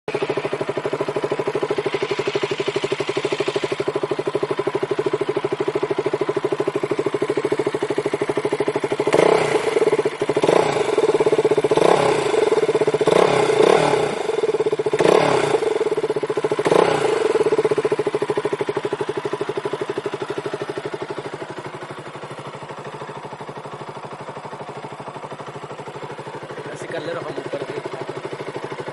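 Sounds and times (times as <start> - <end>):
motorcycle engine idling: 0.1 - 28.9.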